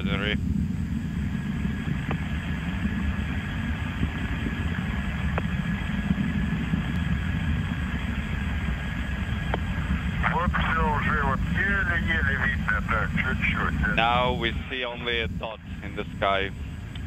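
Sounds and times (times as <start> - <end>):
distant rocket rumble: 0.0 - 17.0.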